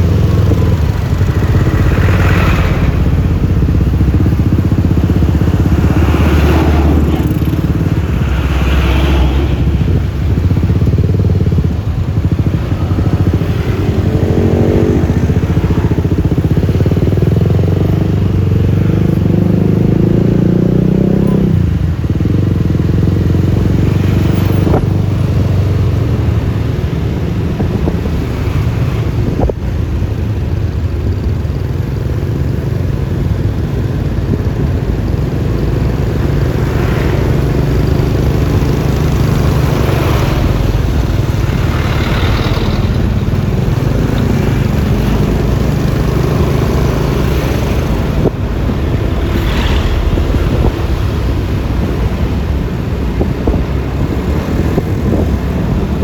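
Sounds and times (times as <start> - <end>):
scooter engine and tyre rumble: 0.0 - 56.0
traffic: 0.0 - 56.0.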